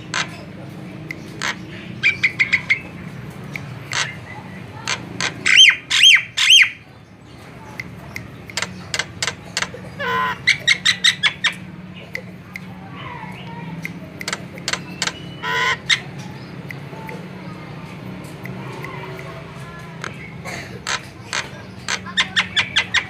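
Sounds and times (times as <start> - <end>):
bird clicks and chips: 0.0 - 6.6, 7.4 - 23.0
harsh rasping bird calls: 0.0 - 23.0.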